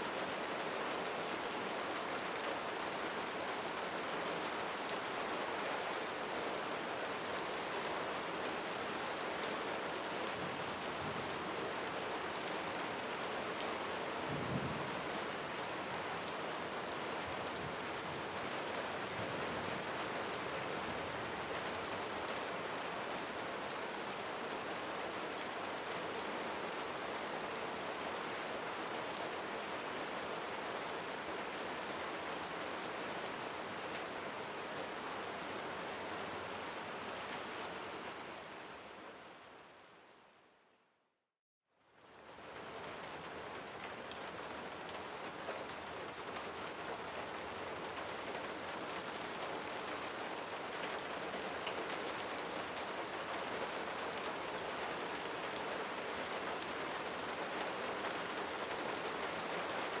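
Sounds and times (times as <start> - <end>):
rain falling on leaves: 0.0 - 40.6, 41.7 - 60.0.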